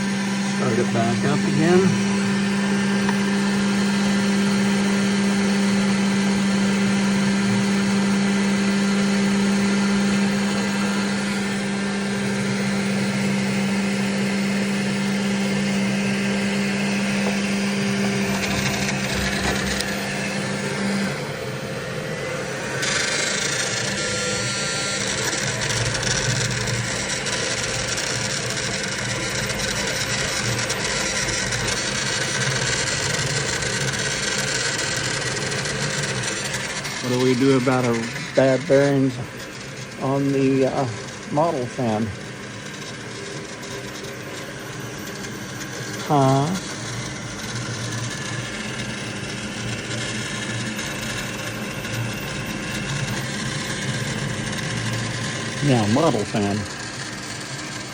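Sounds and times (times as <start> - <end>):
fan buzzing hum: 0.0 - 57.9
machine whirring: 0.0 - 57.9.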